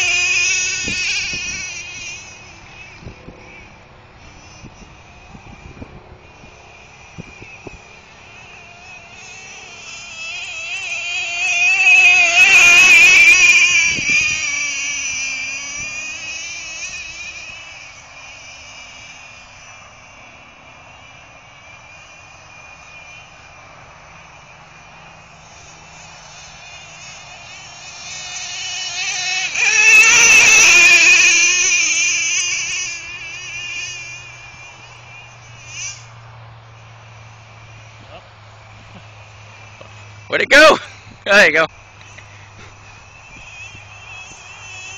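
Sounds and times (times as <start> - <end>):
small engine high-pitched whine: 0.0 - 44.9.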